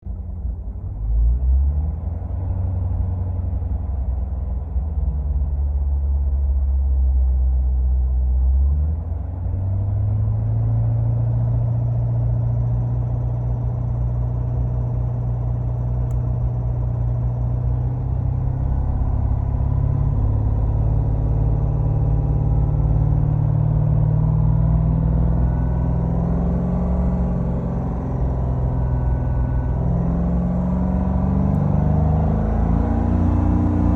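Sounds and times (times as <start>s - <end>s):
car engine and exhaust from inside: 0.0s - 33.9s.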